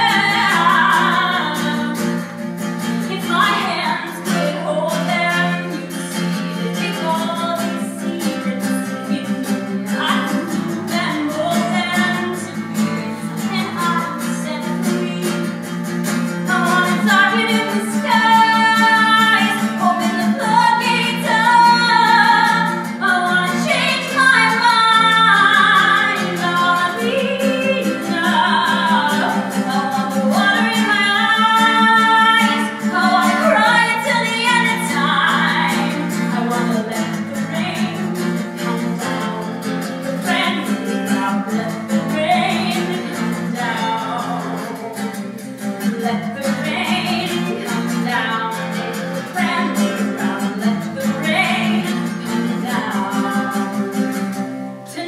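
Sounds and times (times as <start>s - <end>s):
woman singing pop song: 0.0s - 2.2s, 2.8s - 54.3s
acoustic guitar: 0.0s - 55.0s.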